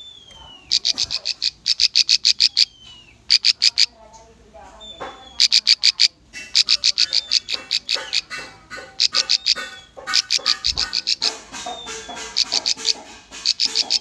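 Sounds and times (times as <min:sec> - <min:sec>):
bird high chipping song: 0:00.0 - 0:14.0.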